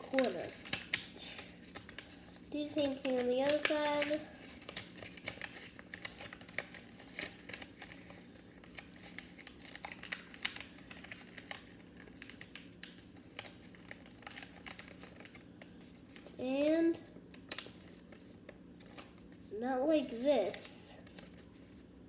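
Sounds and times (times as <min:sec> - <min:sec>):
paper being folded and creased: 0:00.0 - 0:16.4, 0:17.0 - 0:19.4, 0:20.0 - 0:21.9.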